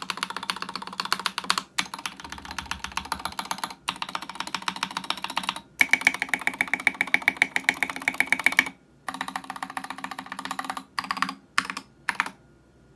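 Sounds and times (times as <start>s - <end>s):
mechanical keyboard typing: 0.0s - 12.4s.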